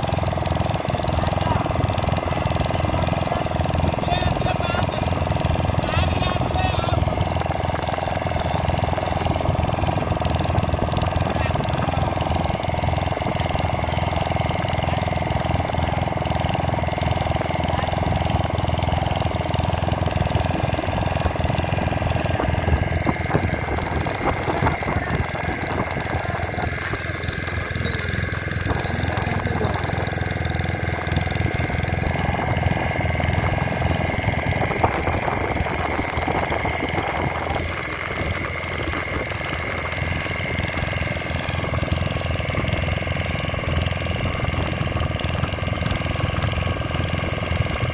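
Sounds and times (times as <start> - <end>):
boat engine chugging: 0.0 - 47.9.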